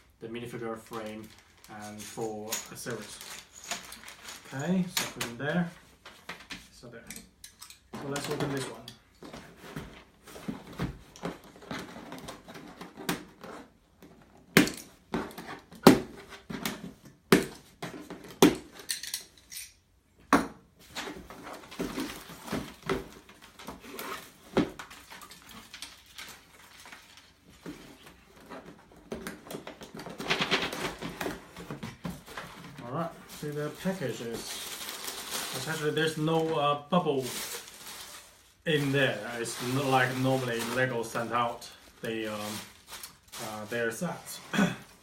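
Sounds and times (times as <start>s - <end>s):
cardboard and packaging rustling: 0.4s - 6.8s, 7.9s - 18.9s, 20.7s - 45.0s.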